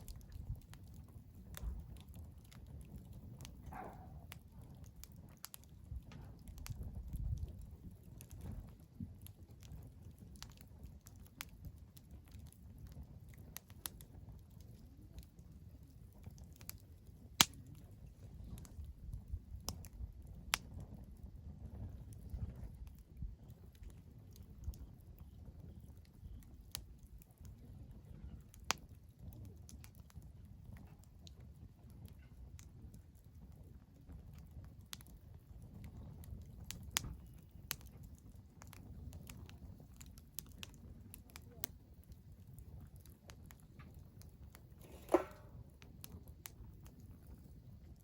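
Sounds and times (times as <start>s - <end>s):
low steady fire rumble: 0.0s - 48.0s
wood fire crackling: 0.0s - 48.0s.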